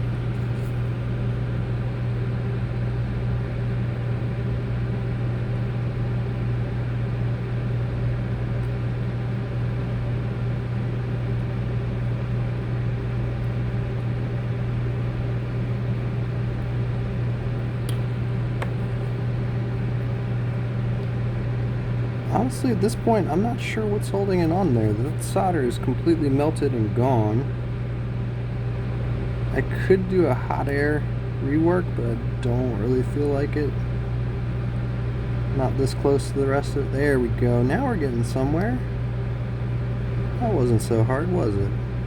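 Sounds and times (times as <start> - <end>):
fan noise from bench equipment: 0.0 - 42.0
low electrical hum: 0.0 - 42.0.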